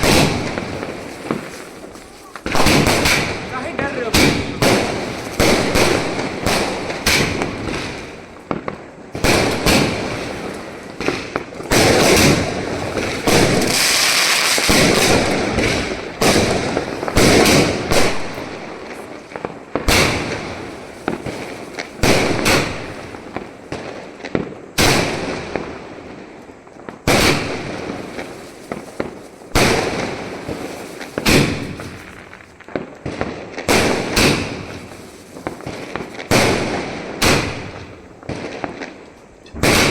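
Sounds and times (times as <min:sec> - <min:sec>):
firework bangs: 0:00.0 - 0:39.9
firework crackling: 0:00.0 - 0:39.9.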